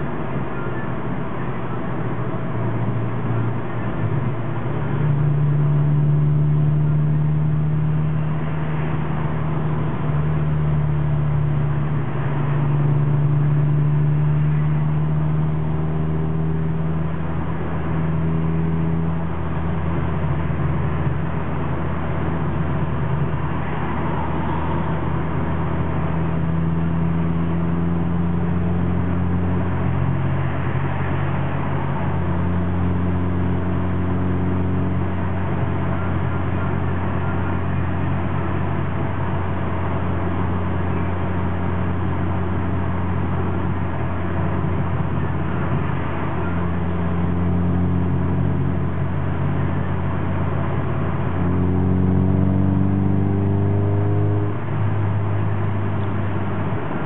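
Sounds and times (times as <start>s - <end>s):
car engine drone: 0.0s - 57.0s
tyre and road noise: 0.0s - 57.0s.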